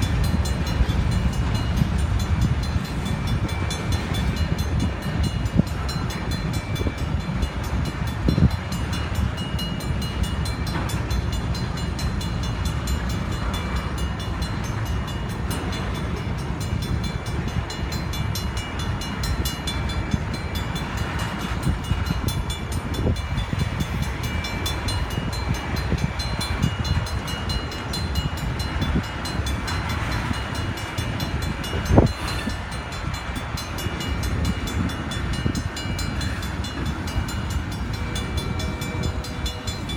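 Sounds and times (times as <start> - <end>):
train cars clanking: 0.0 - 39.9
train wheels rumbling on rail: 0.0 - 39.9.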